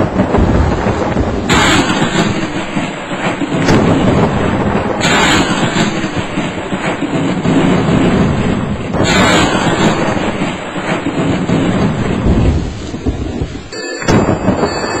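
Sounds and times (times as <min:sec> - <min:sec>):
hail falling: 0:00.0 - 0:15.0
low rumble of thunder: 0:00.0 - 0:15.0
thunder crashes: 0:00.0 - 0:15.0.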